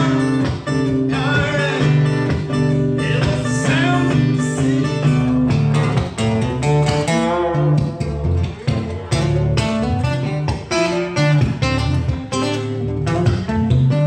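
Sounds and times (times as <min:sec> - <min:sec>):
guitar lead with bent notes: 0:00.0 - 0:14.0
sustained bass notes: 0:00.0 - 0:14.0.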